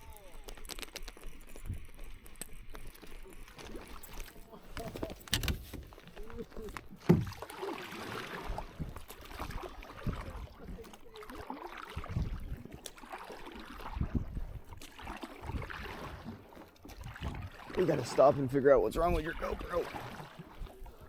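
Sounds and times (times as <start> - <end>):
water sloshing around boat: 0.0 - 21.0.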